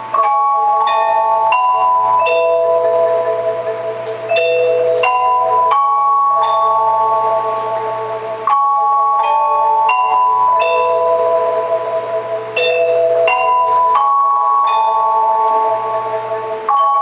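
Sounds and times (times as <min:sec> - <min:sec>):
mallet percussion melody: 0:00.0 - 0:17.0.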